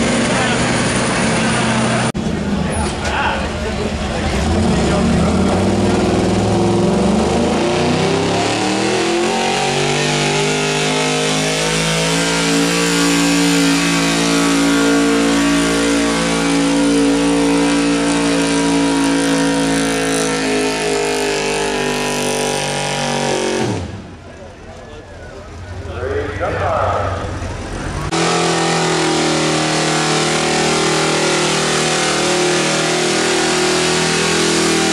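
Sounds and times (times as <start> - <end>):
pickup engine revving under load: 0.0 - 34.9.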